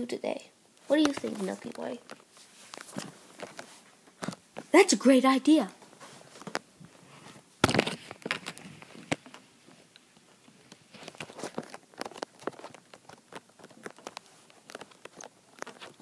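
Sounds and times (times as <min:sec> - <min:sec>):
small clicks and crackles: 0:00.7 - 0:04.7, 0:05.7 - 0:07.0, 0:07.6 - 0:16.0
handling noise and rustling: 0:00.8 - 0:04.7, 0:05.6 - 0:16.0.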